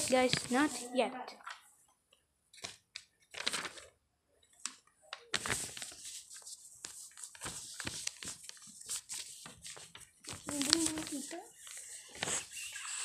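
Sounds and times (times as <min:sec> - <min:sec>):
rustling and soft clicks: 0:00.0 - 0:03.8, 0:04.4 - 0:12.4.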